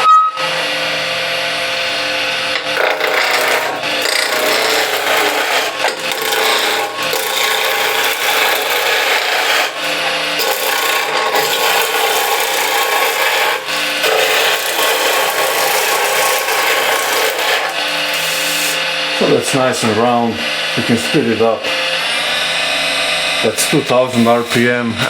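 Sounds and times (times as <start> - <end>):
chisel cutting wood on a lathe: 0.0 - 25.0.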